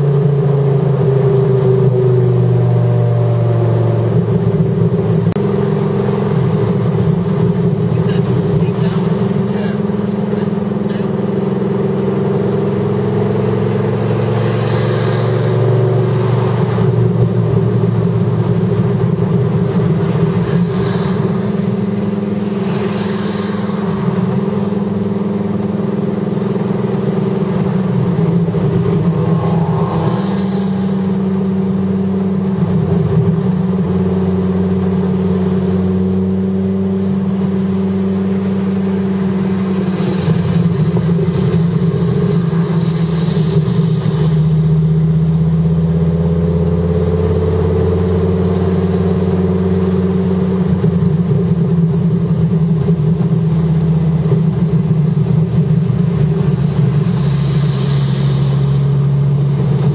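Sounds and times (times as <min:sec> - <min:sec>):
car engine cruising: 0:00.0 - 0:59.9.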